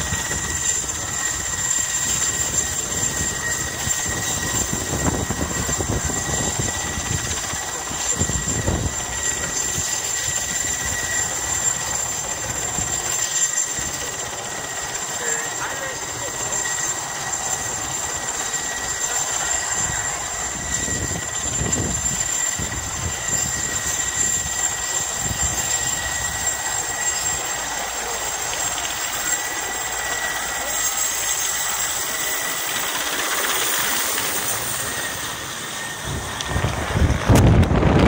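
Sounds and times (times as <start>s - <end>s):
helicopter rotor noise: 0.0s - 38.0s
helicopter turbine whine: 0.0s - 38.0s.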